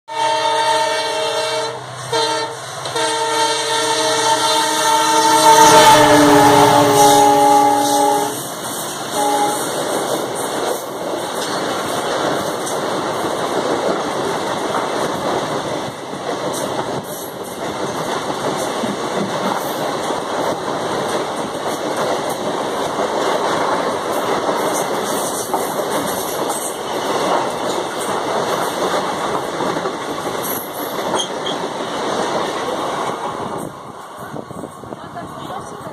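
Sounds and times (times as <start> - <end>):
train wheels rattling on rail: 0.2 - 35.9.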